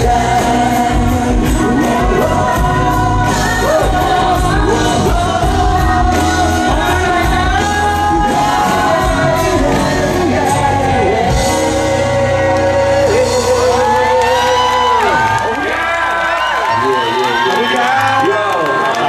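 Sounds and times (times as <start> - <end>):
group singing live pop song: 0.0 - 16.5
amplified band with bass: 0.0 - 18.8.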